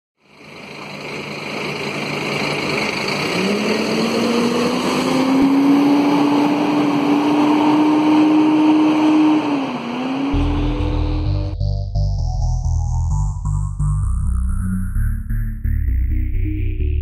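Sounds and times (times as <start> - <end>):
diesel bus engine pulling away: 0.2 - 17.0.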